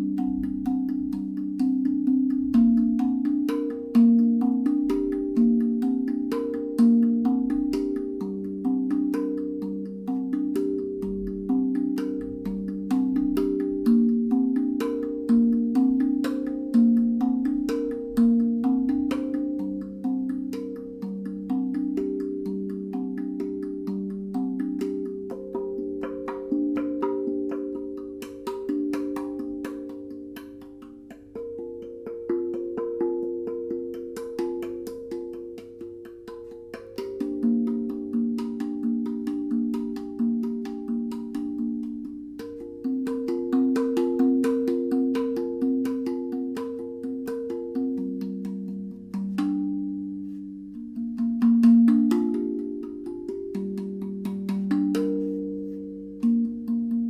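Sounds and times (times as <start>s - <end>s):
steel tongue drum notes: 0.0s - 57.0s.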